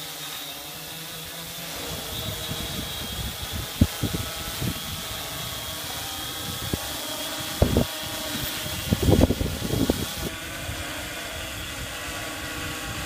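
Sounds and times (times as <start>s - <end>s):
drone propellers whining: 0.0s - 13.0s
propeller wash rumbling on microphone: 1.7s - 13.0s.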